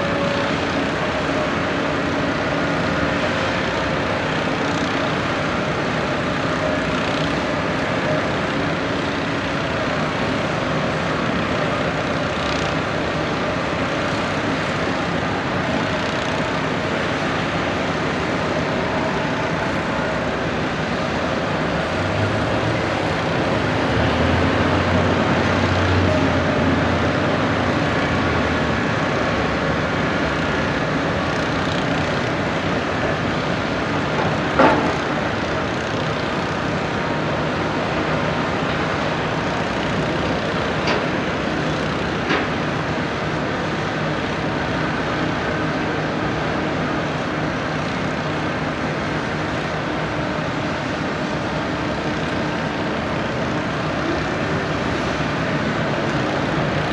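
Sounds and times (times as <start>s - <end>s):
heavy construction machinery running: 0.0s - 56.9s.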